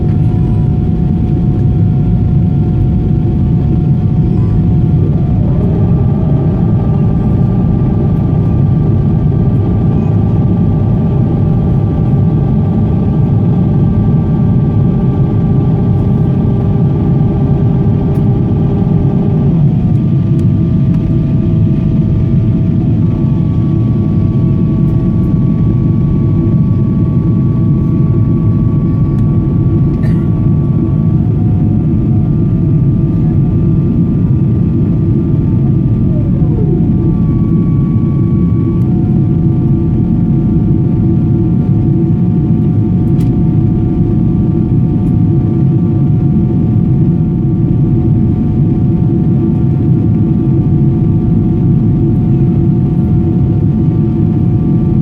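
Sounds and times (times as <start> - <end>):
steady engine tones: 0.0 - 47.0
jet engines roaring in cabin: 0.0 - 55.0.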